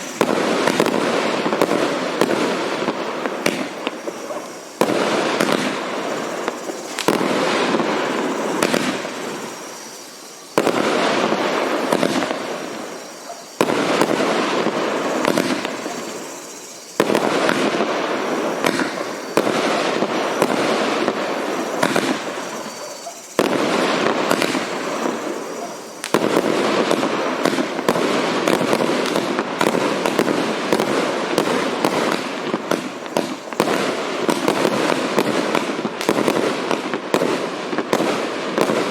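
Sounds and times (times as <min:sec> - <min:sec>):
fireworks pops and bangs: 0:00.0 - 0:38.9.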